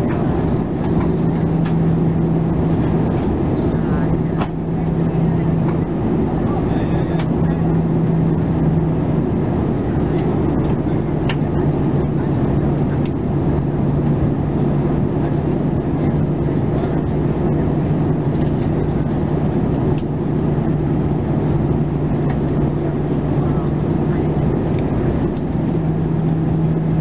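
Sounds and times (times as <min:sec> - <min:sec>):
jet engines droning: 0:00.0 - 0:27.0
steady low hum: 0:00.0 - 0:27.0.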